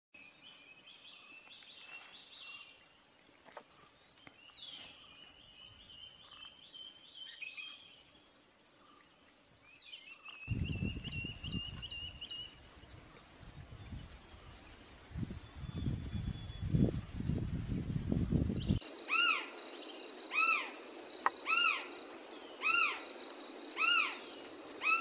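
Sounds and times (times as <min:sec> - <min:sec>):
small bird singing: 0:00.2 - 0:03.0, 0:03.6 - 0:25.0.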